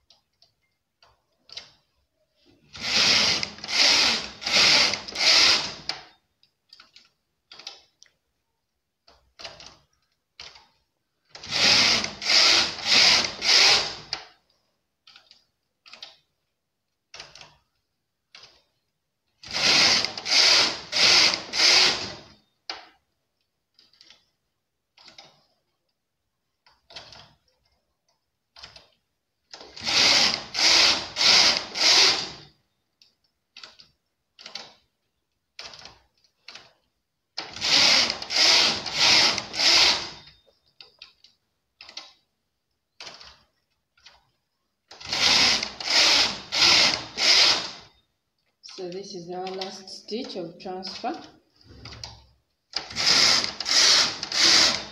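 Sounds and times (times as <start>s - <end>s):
knitting machine carriage rasping: 0.0s - 8.2s, 9.0s - 16.3s, 17.1s - 18.8s, 19.4s - 23.0s, 23.7s - 26.0s, 26.6s - 42.2s, 43.0s - 48.0s, 49.3s - 54.9s.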